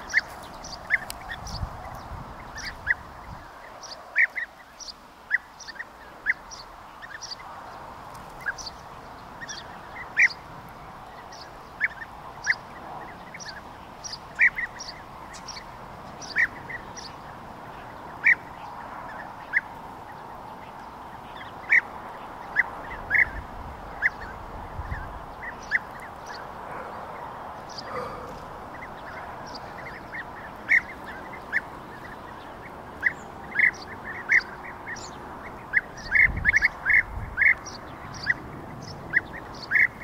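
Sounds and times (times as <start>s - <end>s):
bird calls: 0.0s - 40.0s
steady background hiss: 0.0s - 40.0s.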